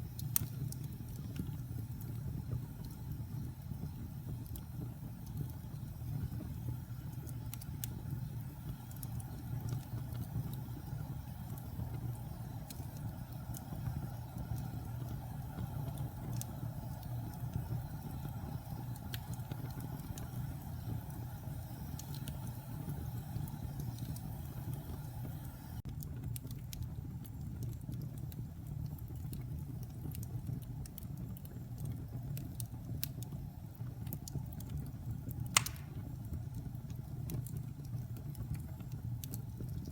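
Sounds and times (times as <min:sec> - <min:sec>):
flames rumbling: 0:00.0 - 0:39.9
logs crackling and popping: 0:00.0 - 0:39.9.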